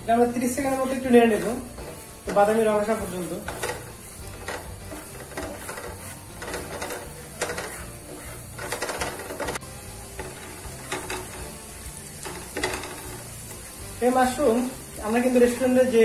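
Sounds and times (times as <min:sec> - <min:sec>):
garlic sizzling in butter: 0:00.0 - 0:16.0
spatula scraping frying pan: 0:00.0 - 0:16.0.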